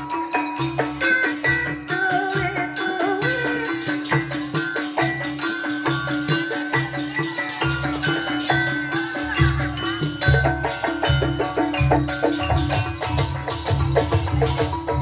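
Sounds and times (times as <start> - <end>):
gongs and metallophones struck: 0.0 - 15.0.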